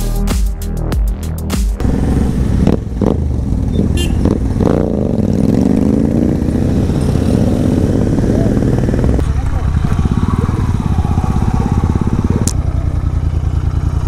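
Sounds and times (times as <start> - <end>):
motorcycle engine revving: 1.8 - 14.0.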